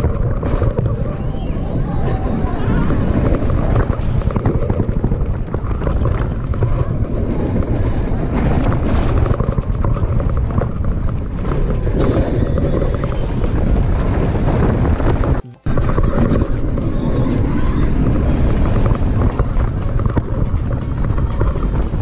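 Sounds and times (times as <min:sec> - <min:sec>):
roller coaster train rumble: 0:00.0 - 0:22.0
wind rushing over microphone: 0:00.0 - 0:22.0.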